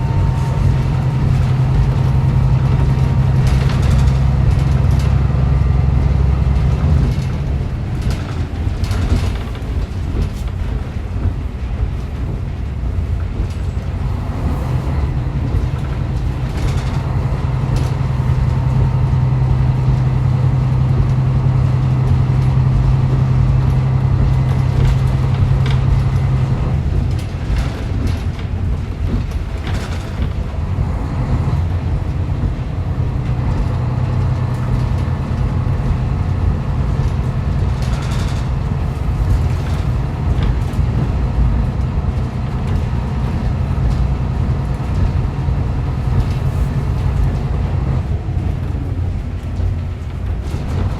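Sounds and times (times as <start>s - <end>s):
low engine drone: 0.0s - 50.9s
wheels clicking over rail joints: 0.0s - 50.9s.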